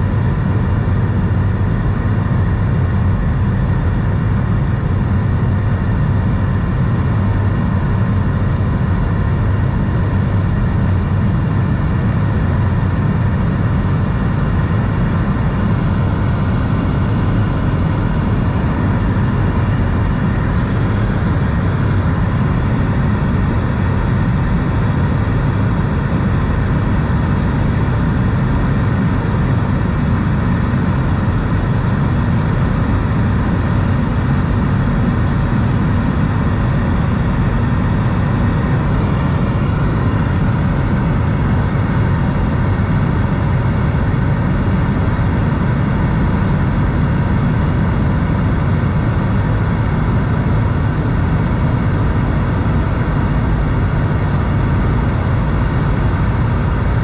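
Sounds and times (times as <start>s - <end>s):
jet engine drone: 0.0s - 57.0s.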